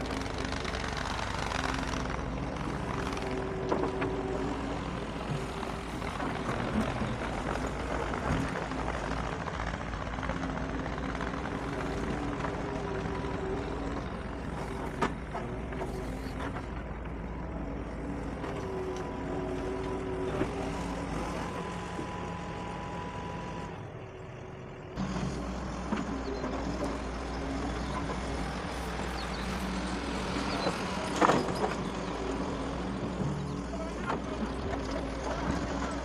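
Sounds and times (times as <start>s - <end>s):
excavator diesel engine under load: 0.0s - 36.0s
hydraulic whine: 0.0s - 36.0s.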